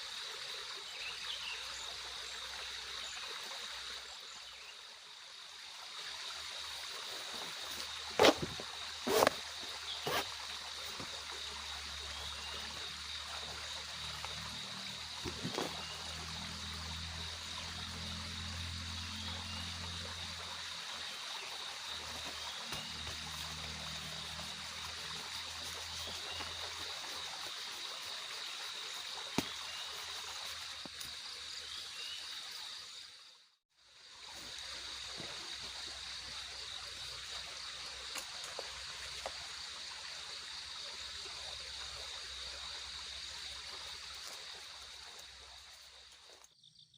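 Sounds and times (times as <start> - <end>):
steady water noise: 0.0 - 46.5
high insect drone: 0.0 - 46.9.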